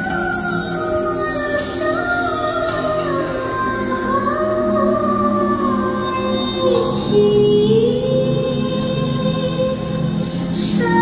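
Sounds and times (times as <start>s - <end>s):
ambient music: 0.0s - 11.0s.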